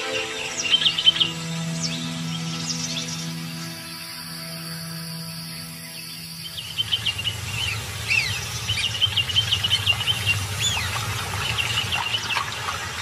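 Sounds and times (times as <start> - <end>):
whistled bird notes: 0.0 - 12.5
birds chirping trills: 0.0 - 13.0.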